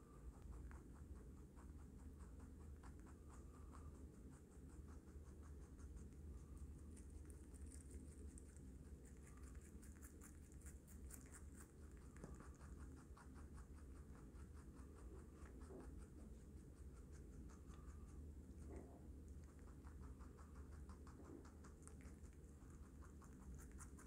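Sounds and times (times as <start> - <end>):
rabbit chewing vegetables: 0.0 - 24.0.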